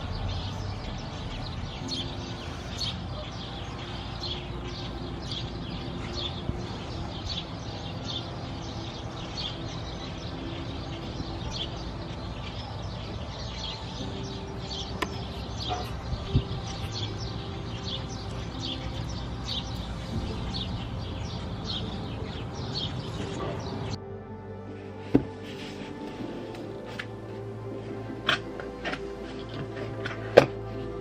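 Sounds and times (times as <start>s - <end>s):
birds chirping: 0.0s - 31.0s
low background rumble: 0.0s - 31.0s.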